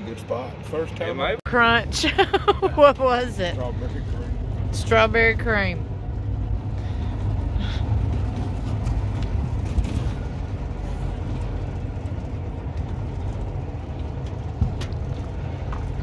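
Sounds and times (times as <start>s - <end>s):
outboard motor idling: 2.0s - 16.0s.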